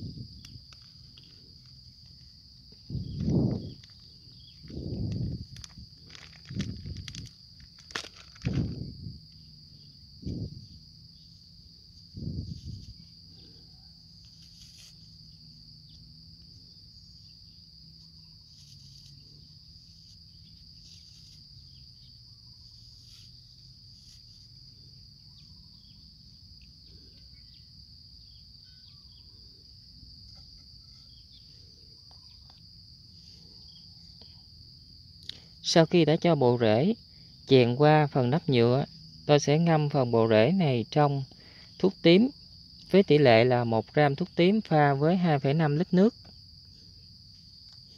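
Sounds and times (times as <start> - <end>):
faint low hum: 0.0 - 47.9
insects chirring: 0.0 - 47.9.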